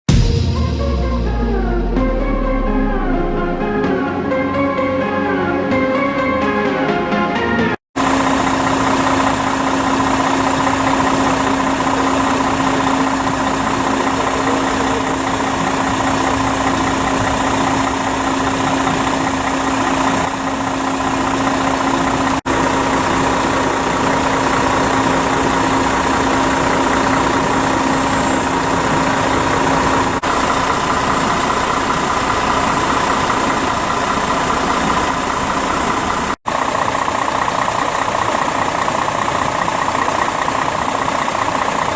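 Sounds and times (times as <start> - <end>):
diesel engine idling: 8.0 - 41.9.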